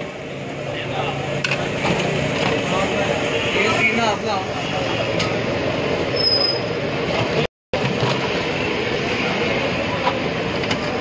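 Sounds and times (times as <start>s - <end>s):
busy street food stall din: 0.0s - 11.0s.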